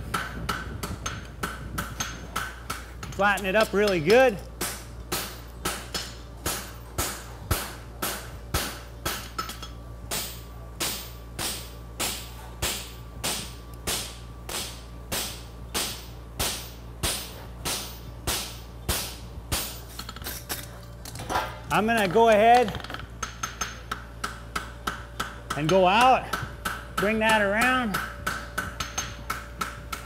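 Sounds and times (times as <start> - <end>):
hammer striking horseshoe on anvil: 0.0 - 20.2, 21.3 - 30.0.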